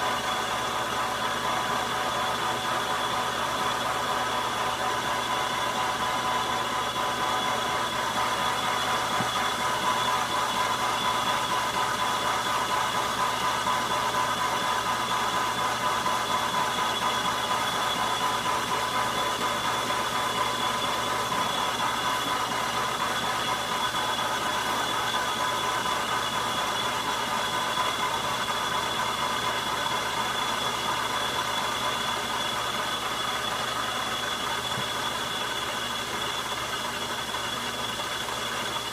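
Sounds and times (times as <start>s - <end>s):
metal lathe running: 0.0s - 38.9s.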